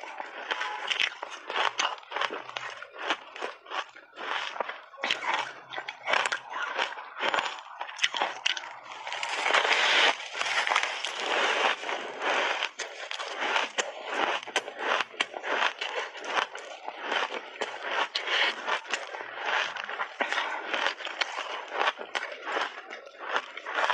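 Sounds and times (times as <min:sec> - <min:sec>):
chewing crushed ice: 0:00.0 - 0:23.9.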